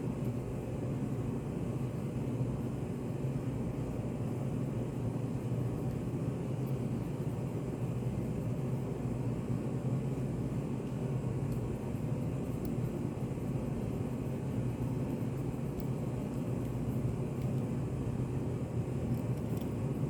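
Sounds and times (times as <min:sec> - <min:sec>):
faint hum: 0:00.0 - 0:20.0
low rumbling background noise: 0:00.0 - 0:20.0.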